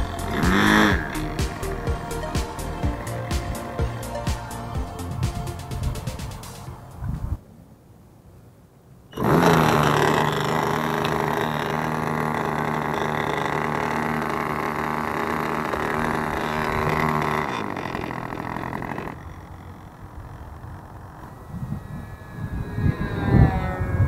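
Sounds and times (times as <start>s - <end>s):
model airplane engine running: 0.0s - 6.7s, 9.1s - 24.0s.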